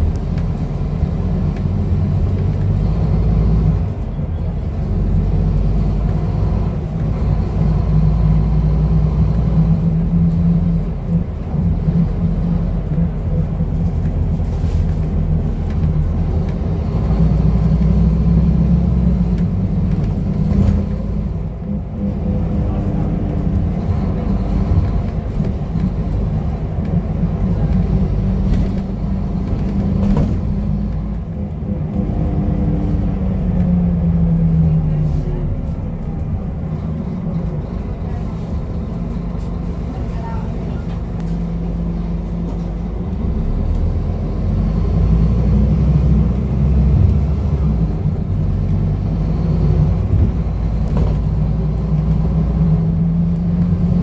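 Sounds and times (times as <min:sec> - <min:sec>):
bus diesel engine: 0:00.0 - 0:54.0
road rumble: 0:00.0 - 0:54.0.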